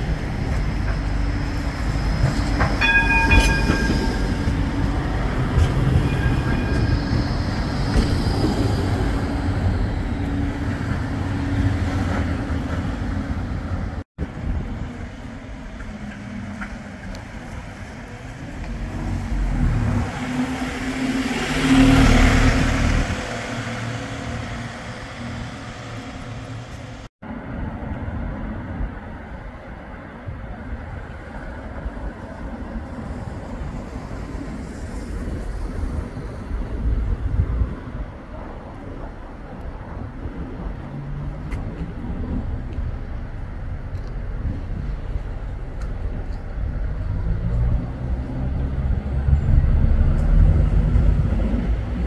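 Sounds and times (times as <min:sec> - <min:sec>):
quiet street noise: 0:00.0 - 0:52.0
tram running by: 0:00.0 - 0:52.0.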